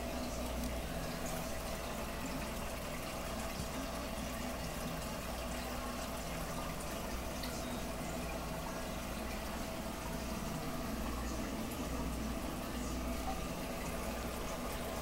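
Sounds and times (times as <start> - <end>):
aquarium bubbling: 0.0 - 15.0
trickling water: 0.0 - 15.0.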